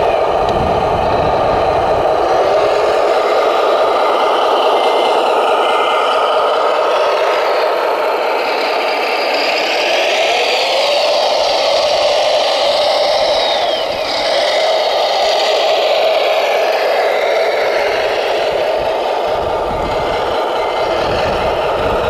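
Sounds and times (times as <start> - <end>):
high whine gliding down: 0.0 - 22.0
toy loader motor whirring: 0.0 - 22.0.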